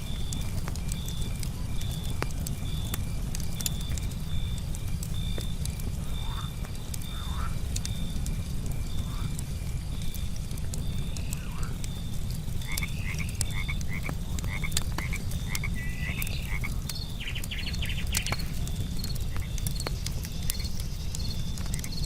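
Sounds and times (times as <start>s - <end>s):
wood fire crackling and popping: 0.0s - 22.0s
frogs croaking: 3.7s - 10.3s, 10.9s - 22.0s.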